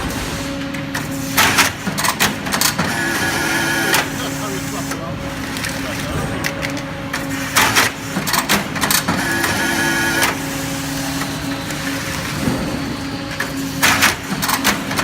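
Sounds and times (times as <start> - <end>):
high machine whine: 0.0 - 15.0
baler machine hum: 2.4 - 15.0.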